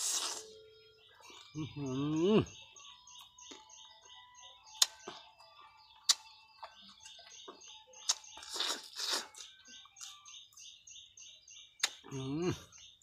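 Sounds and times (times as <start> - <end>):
chewing crunchy raw fruit: 0.0 - 10.6.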